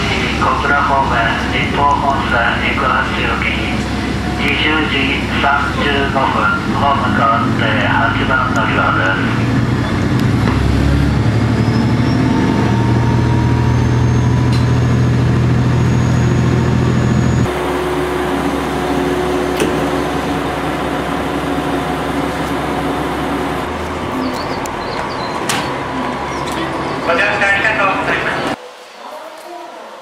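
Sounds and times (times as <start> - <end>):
diesel railcar idling: 0.0 - 28.6
train running drone: 0.0 - 30.0.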